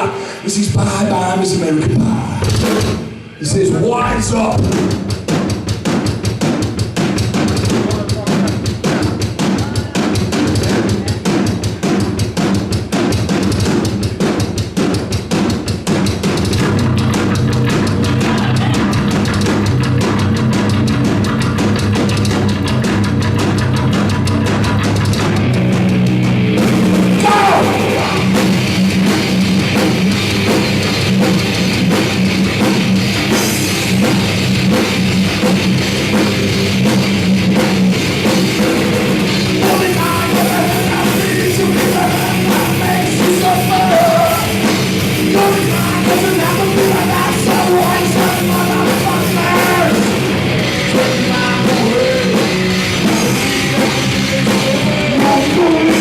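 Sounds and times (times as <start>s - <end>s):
fast dense drumming: 0.0s - 56.0s
heavy rock band playing: 0.0s - 56.0s.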